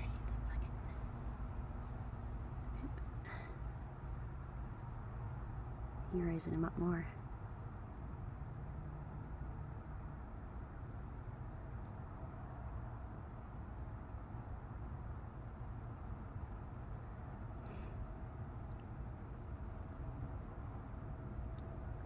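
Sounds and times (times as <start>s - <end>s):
crickets chirping: 0.0s - 22.0s
low background rumble: 0.0s - 22.0s.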